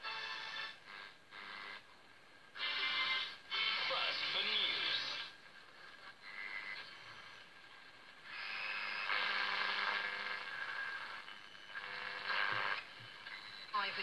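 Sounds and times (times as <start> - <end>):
faint steady radio tones: 0.0 - 14.0
radio static hiss: 0.0 - 14.0.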